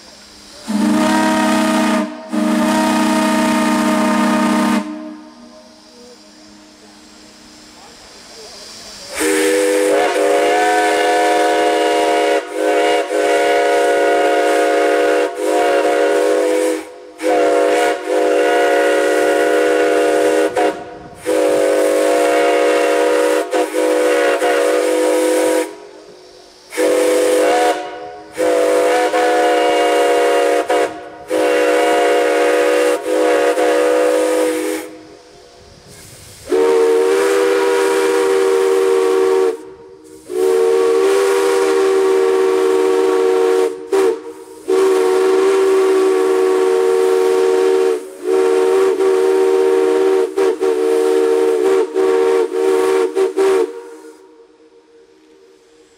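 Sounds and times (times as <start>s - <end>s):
steam hissing: 0.0s - 55.9s
steam whistle chord blasts: 0.5s - 7.8s, 9.1s - 35.6s, 36.4s - 55.9s.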